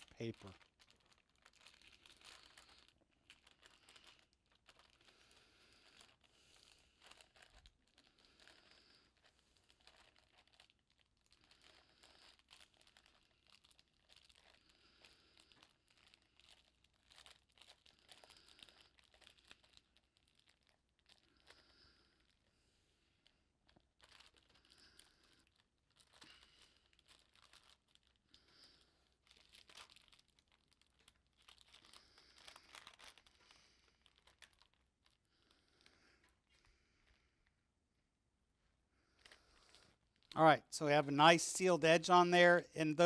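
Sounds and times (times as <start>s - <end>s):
parchment paper crinkling: 0.0s - 37.6s, 38.9s - 43.0s.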